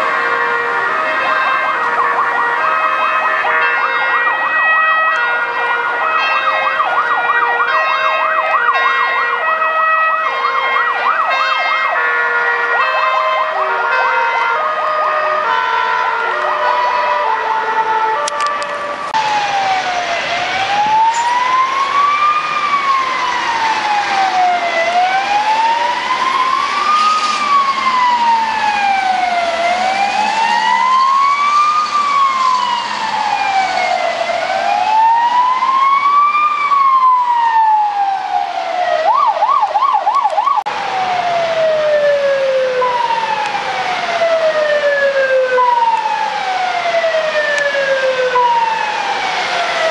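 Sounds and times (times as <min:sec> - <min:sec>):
emergency vehicle sirens: 0:00.0 - 0:49.9.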